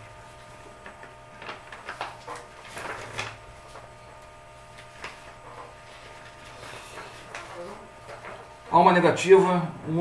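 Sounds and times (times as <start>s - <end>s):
low electrical hum: 0.0s - 10.0s
papers rustling: 0.4s - 8.7s.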